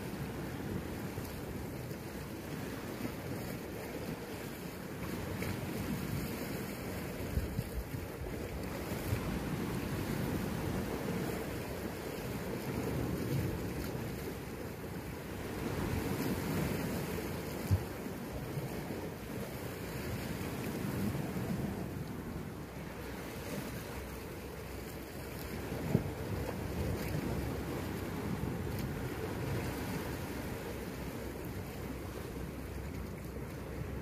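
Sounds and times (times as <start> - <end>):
wind rumbling on microphone: 0.0 - 34.0
waves washing against rocks: 4.4 - 34.0.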